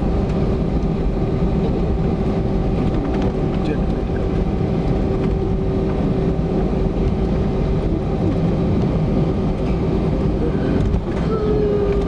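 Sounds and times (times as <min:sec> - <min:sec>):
airplane engines idling rumble: 0:00.0 - 0:12.0.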